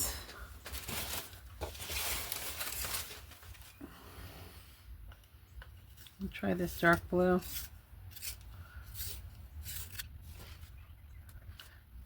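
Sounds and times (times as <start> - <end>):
art supplies rustling: 0.0 - 4.1, 5.6 - 11.8.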